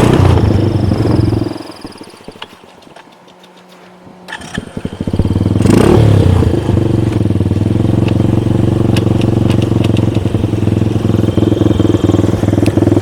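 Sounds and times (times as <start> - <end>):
snowmobile engine revving and running: 0.0 - 2.1, 4.4 - 13.0.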